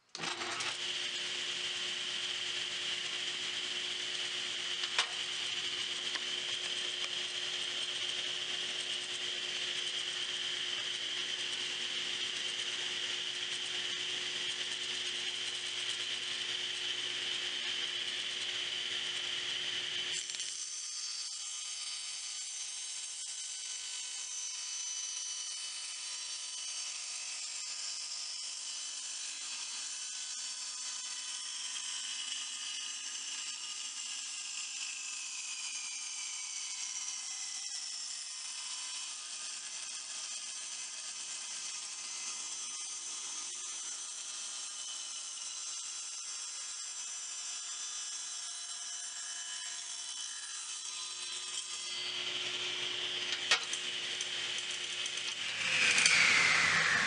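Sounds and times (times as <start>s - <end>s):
table saw cutting wood: 0.0s - 57.0s.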